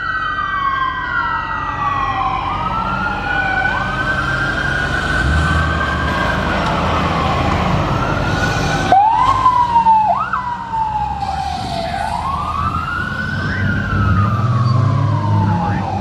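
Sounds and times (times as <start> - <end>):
emergency siren wailing: 0.0 - 16.0
vehicle engines rumbling: 0.0 - 16.0.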